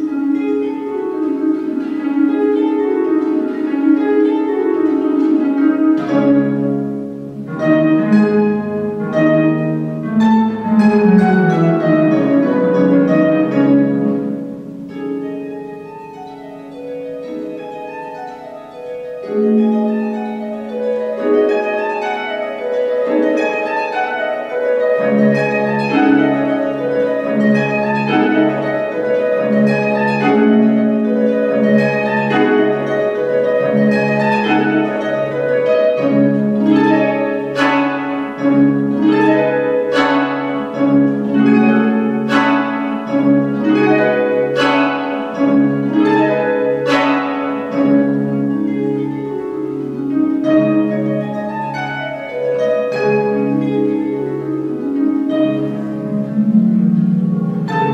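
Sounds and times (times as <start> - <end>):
harp plucked notes: 0.0 - 57.9.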